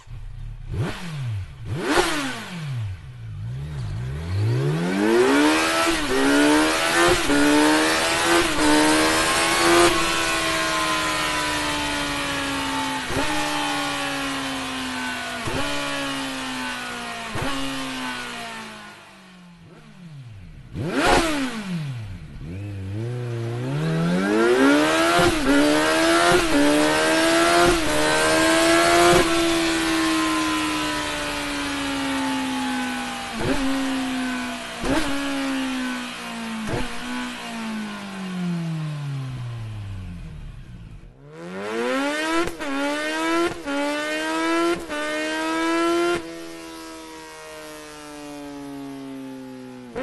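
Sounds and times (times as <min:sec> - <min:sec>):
motorcycle accelerating through gears: 0:00.0 - 0:50.0.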